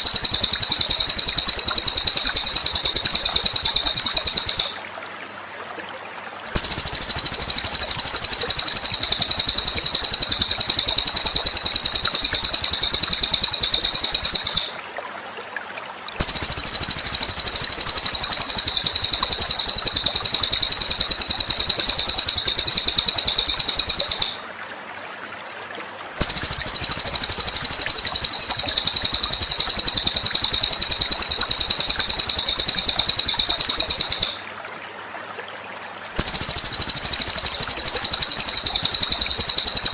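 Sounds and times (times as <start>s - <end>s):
high fast bird trill: 0.0s - 4.8s, 6.6s - 14.8s, 16.2s - 24.4s, 26.2s - 34.4s, 36.2s - 39.9s.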